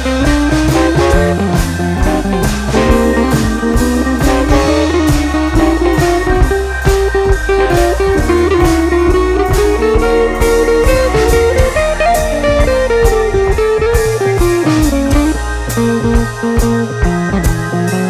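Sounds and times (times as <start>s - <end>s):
instrumental music with bass and beat: 0.0s - 18.0s.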